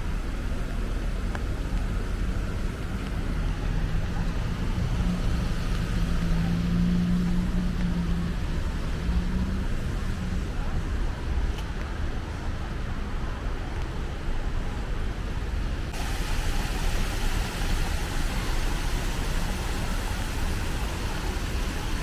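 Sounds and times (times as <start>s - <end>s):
traffic rumble: 0.0s - 22.0s
vehicle engine hum: 0.0s - 22.0s.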